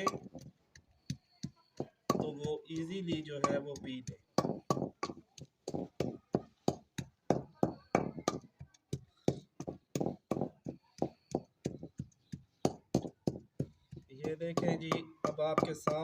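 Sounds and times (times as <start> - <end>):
pounding into a paste: 0.0 - 16.0.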